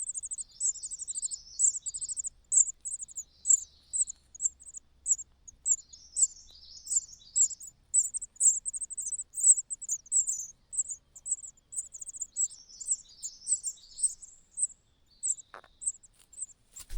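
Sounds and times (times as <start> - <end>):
young birds chirping: 0.0 - 16.9.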